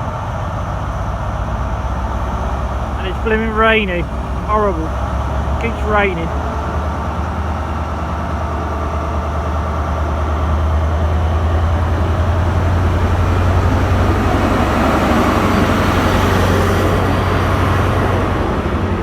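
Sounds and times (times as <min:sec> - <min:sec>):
diesel train engine drone: 0:00.0 - 0:19.0.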